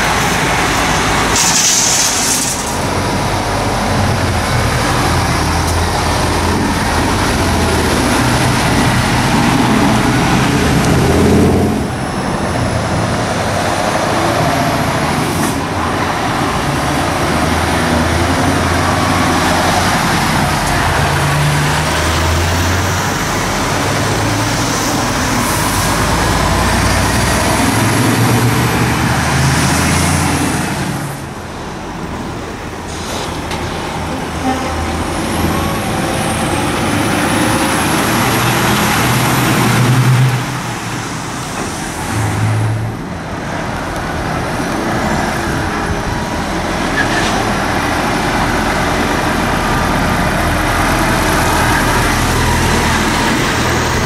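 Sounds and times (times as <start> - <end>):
lorry diesel engines passing: 0.0 - 54.0
tyre and traffic noise: 0.0 - 54.0.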